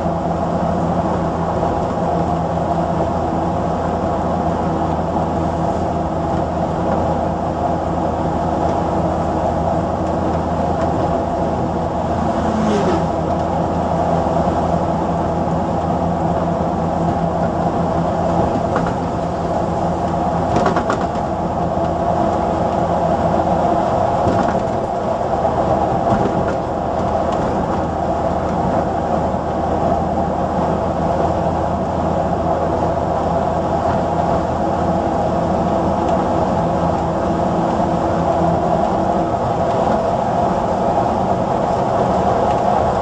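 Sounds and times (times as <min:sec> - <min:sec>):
bus diesel engine running: 0:00.0 - 0:43.0.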